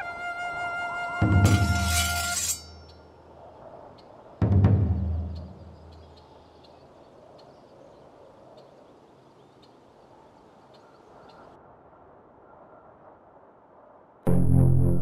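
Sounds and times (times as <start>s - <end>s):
faint background ambience: 0.0s - 15.0s.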